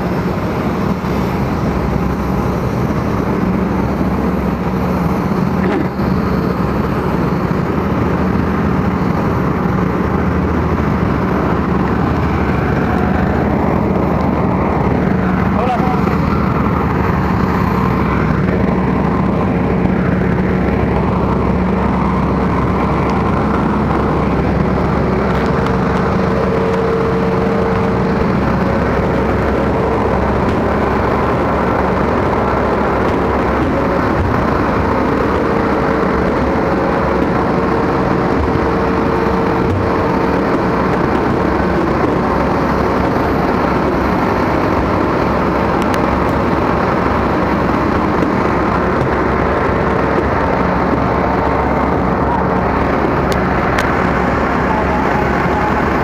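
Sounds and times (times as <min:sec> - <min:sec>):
high machinery whine: 0:00.0 - 0:56.0
low machinery hum: 0:00.0 - 0:56.0.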